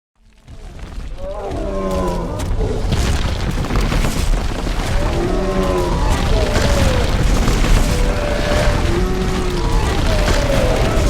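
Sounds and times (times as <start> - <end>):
rumble of heavy footfalls: 0.2 - 11.0.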